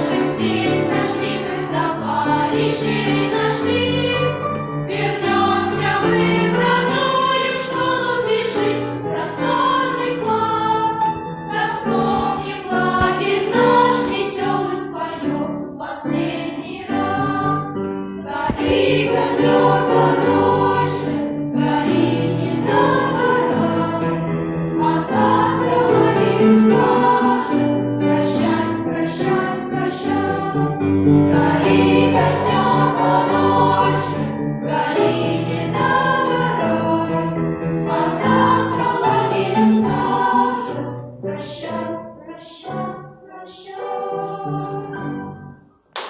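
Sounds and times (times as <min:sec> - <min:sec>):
choir singing: 0:00.0 - 0:45.6.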